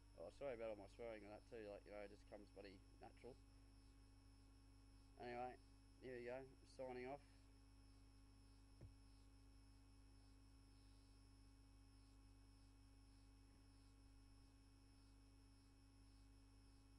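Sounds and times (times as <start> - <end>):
faint electrical hum and whine: 0.0 - 16.9.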